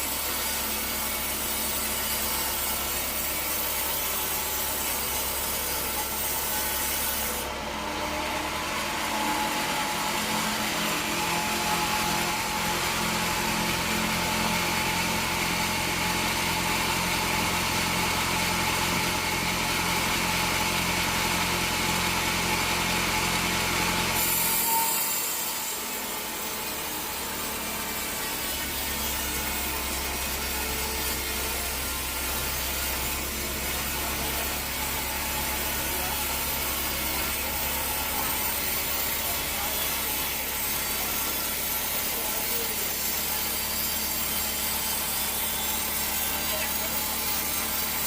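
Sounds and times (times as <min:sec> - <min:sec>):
saw blade rasping through wood: 0:00.0 - 0:48.0
sawmill machine hum: 0:00.0 - 0:48.0.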